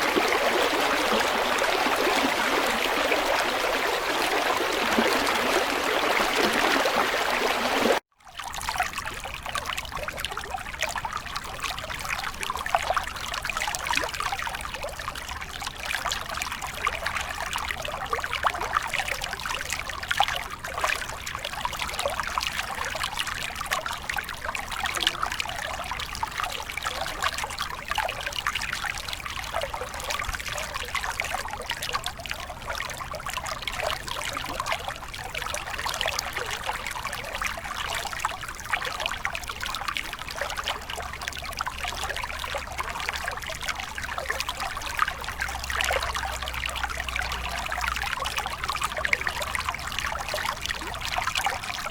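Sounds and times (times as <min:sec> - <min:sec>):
stream water flowing: 0:00.0 - 0:51.9
water trickling and splashing: 0:00.0 - 0:51.9.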